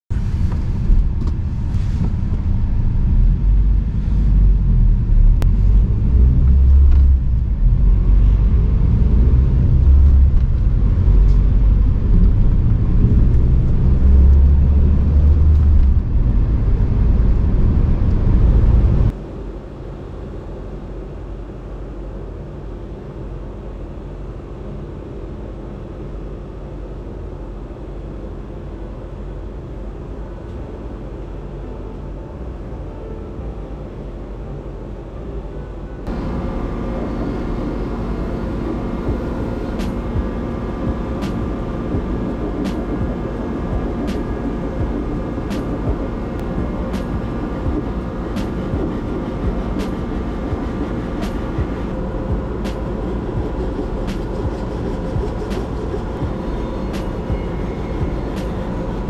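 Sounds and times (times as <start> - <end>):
engine and road noise in cab: 0.1 - 59.0
quiet steady hum: 0.1 - 59.0.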